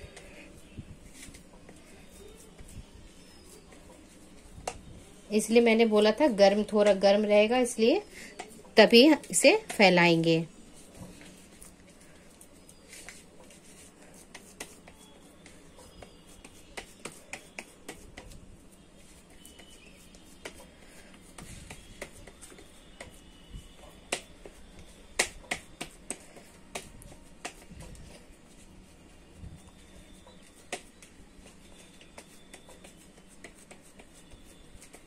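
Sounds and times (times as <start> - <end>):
hands patting dough: 0.0 - 7.7, 8.3 - 35.0.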